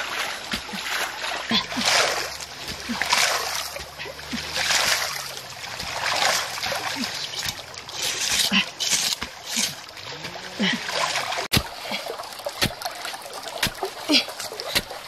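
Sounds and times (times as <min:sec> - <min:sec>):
hands splashing mud and water: 0:00.0 - 0:15.0
running water: 0:00.0 - 0:15.0.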